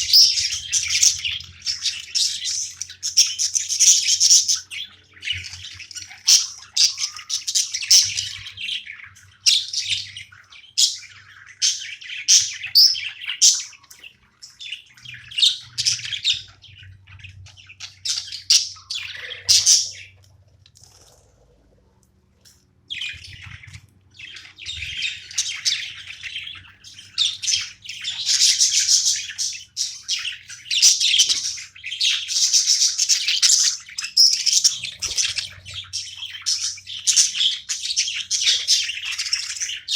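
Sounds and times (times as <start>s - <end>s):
budgerigars chirping: 0.0s - 20.2s, 22.9s - 39.9s.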